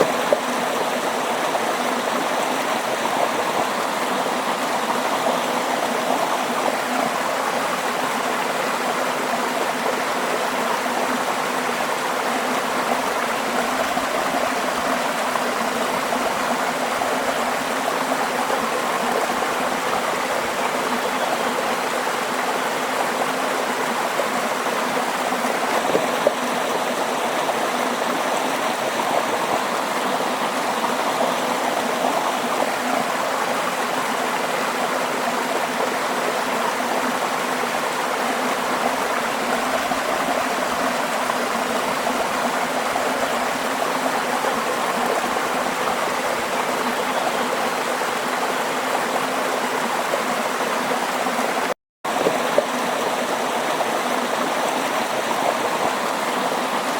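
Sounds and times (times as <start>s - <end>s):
water flowing over rocks: 0.0s - 56.9s.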